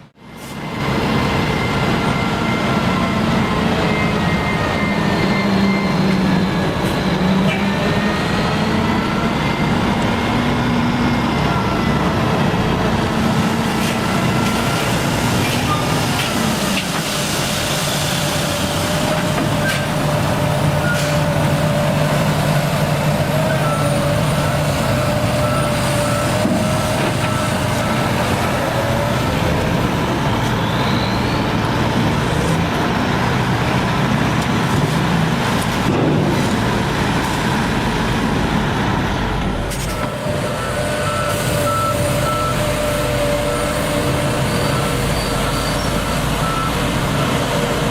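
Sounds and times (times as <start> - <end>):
diesel machinery engine running: 0.0 - 47.9.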